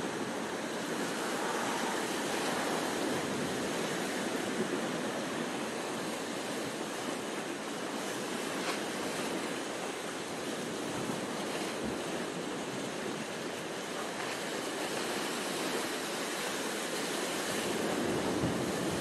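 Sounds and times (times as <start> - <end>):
surf breaking around rocks: 0.0 - 19.0.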